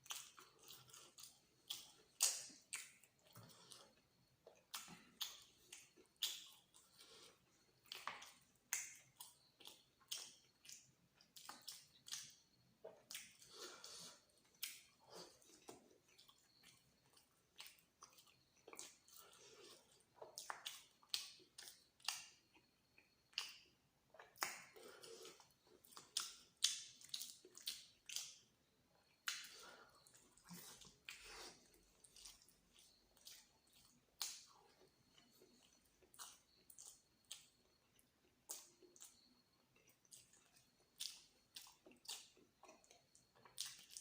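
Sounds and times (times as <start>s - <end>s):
person chewing: 0.0s - 44.0s.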